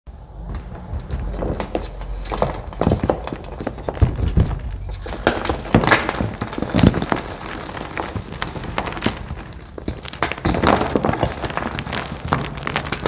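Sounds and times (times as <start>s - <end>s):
powder blocks crunching by hand: 1.0s - 13.0s.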